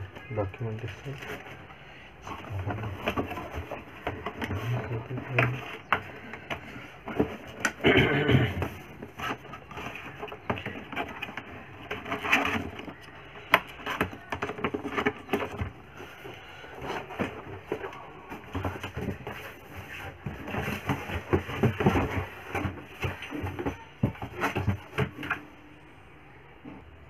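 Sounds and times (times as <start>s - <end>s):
cardboard box scraping and rustling: 0.7s - 25.4s.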